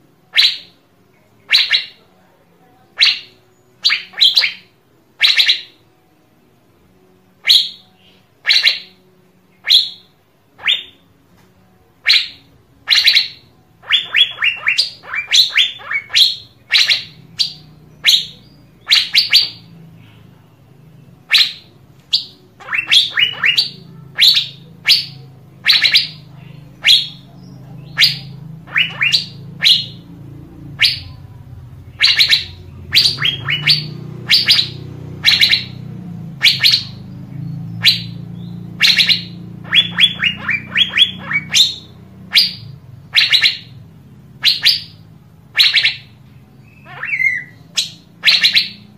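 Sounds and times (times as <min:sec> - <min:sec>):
faint low hum: 0:00.0 - 0:48.9
sharp high bird calls: 0:00.3 - 0:00.8, 0:01.4 - 0:02.0, 0:02.9 - 0:05.8, 0:07.4 - 0:11.1, 0:12.0 - 0:48.9.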